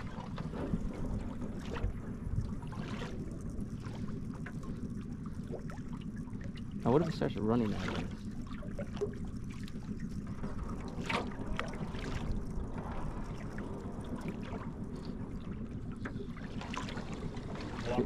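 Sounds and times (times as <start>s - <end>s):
water lapping against boat: 0.0s - 18.0s.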